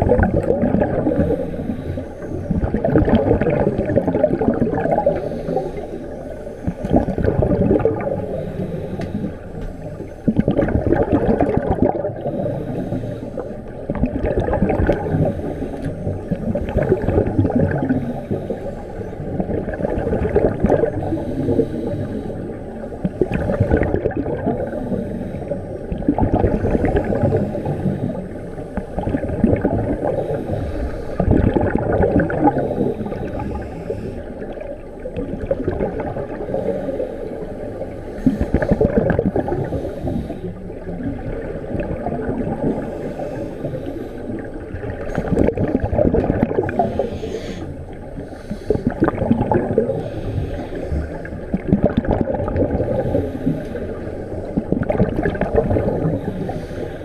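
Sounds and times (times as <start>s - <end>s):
underwater regulator bubbles: 0.0s - 57.0s.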